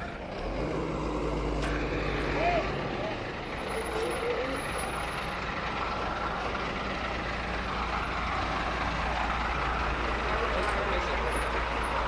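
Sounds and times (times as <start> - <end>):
large vehicle engine rumbling: 0.0 - 12.0
outdoor background noise: 0.0 - 12.0.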